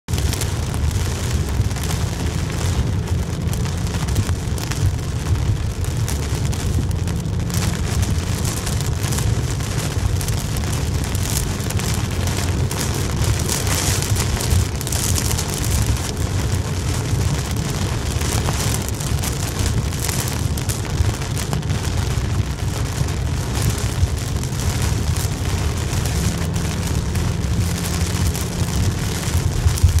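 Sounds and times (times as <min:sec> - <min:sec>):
heavy rain on car windshield: 0:00.0 - 0:30.0
road and engine rumble: 0:00.0 - 0:30.0.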